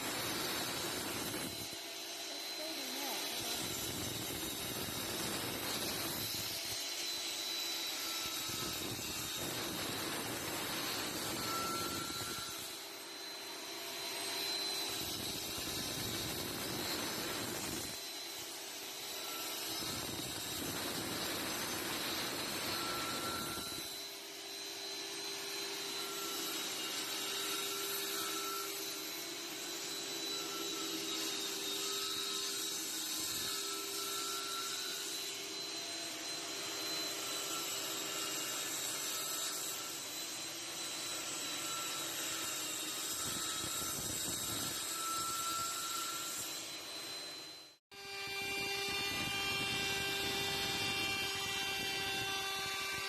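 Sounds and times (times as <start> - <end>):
woodworking machine whining: 0.0 - 53.0.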